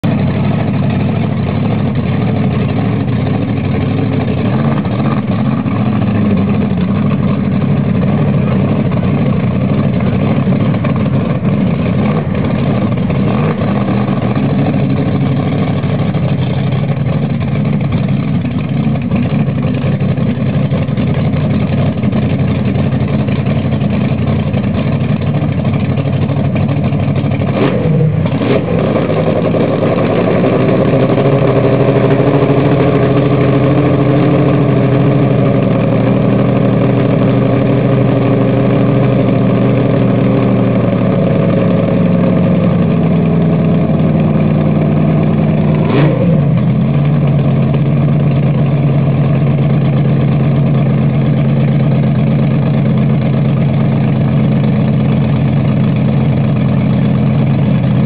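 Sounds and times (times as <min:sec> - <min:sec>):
car engine running loud: 0:00.0 - 0:58.0.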